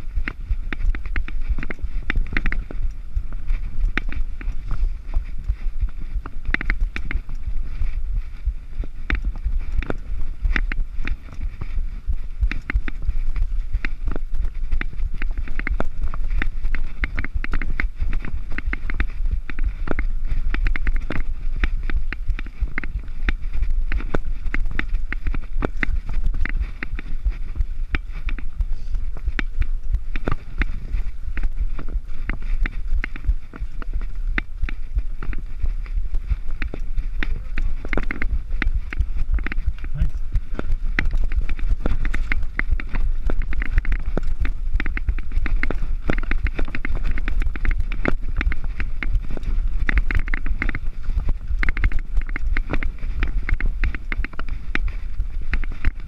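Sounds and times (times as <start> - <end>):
bike clicking and rattling: 0.0 - 56.0
wind rumble on microphone: 0.0 - 56.0.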